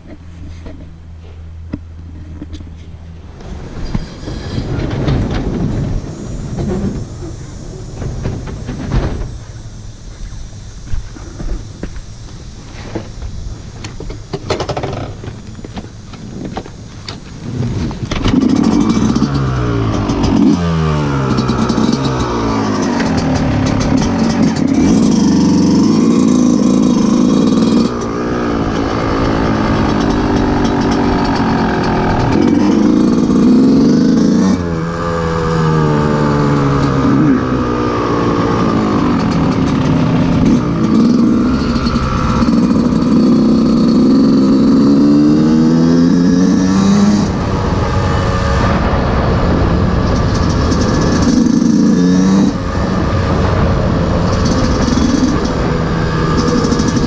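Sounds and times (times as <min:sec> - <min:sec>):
engine knocks and clatter: 0:00.0 - 0:57.0
dirt bike engine revving: 0:03.3 - 0:57.0.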